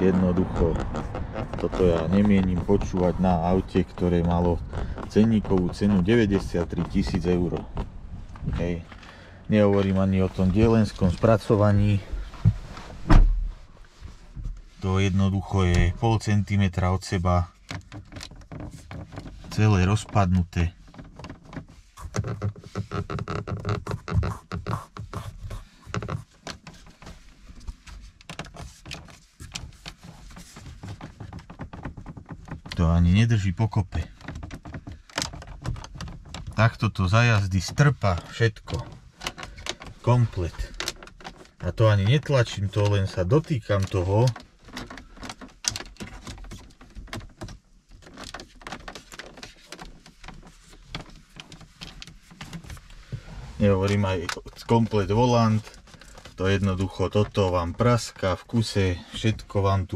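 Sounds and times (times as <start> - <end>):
plastic trim creaking and clicking: 0.0 - 13.4, 15.5 - 59.9.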